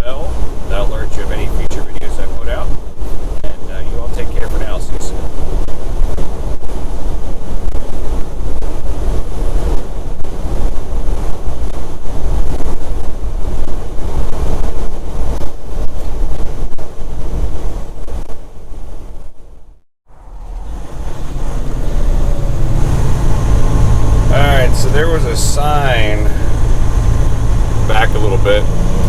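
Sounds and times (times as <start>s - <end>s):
truck driving at highway speed: 0.0s - 29.0s
wind buffeting microphone: 0.0s - 29.0s.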